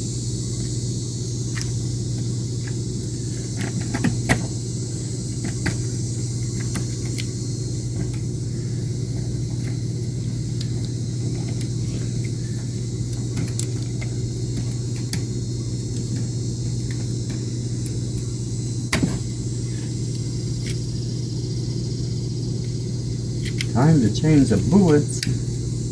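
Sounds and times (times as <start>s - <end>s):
high hiss: 0.0s - 25.9s
low mechanical hum: 0.0s - 25.9s.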